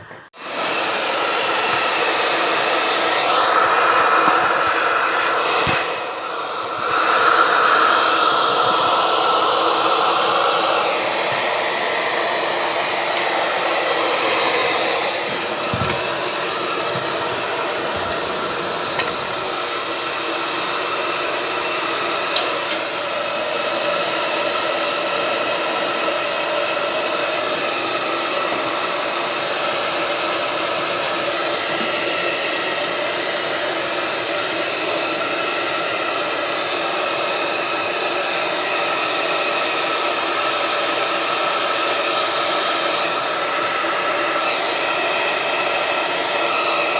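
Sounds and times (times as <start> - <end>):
hot-air blower running: 0.0 - 46.9.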